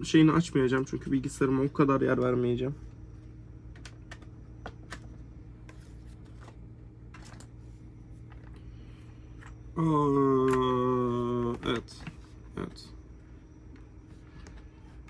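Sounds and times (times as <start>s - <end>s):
steady low hum: 0.0s - 15.0s
keyboard clicks and rustles: 2.1s - 15.0s.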